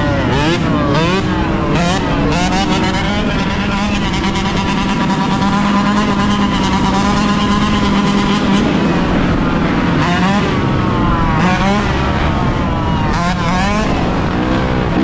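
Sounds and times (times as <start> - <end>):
two-stroke motorcycle engine running: 0.0 - 12.2.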